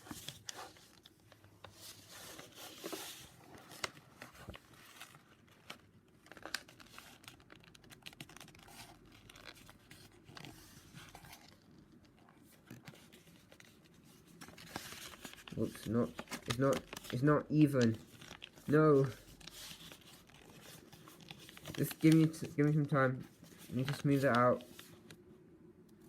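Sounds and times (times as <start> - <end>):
paper crinkling and rustling: 0.0 - 25.2.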